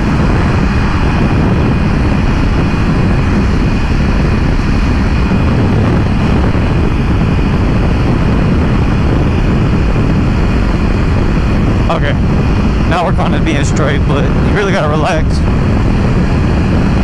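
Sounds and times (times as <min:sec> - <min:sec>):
motorcycle engine cruising: 0:00.0 - 0:17.0
wind rush through helmet: 0:00.0 - 0:17.0.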